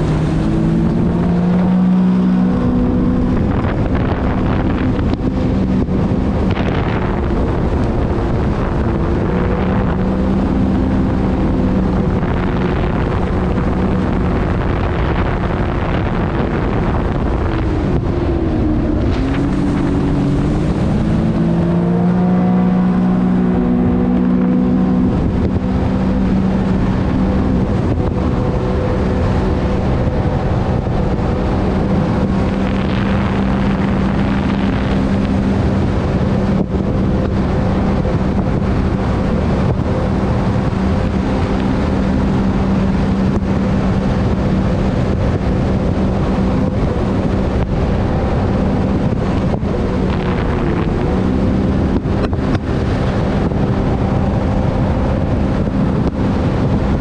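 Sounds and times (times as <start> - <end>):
watercraft engine drone: 0.0 - 57.0
wind and water rushing: 0.0 - 57.0.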